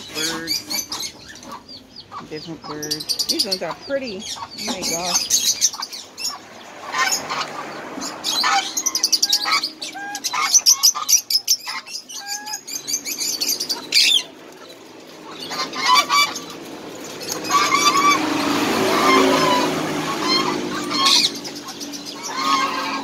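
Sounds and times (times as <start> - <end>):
birds chirping and chattering: 0.0 - 23.0
geese calling: 0.0 - 23.0.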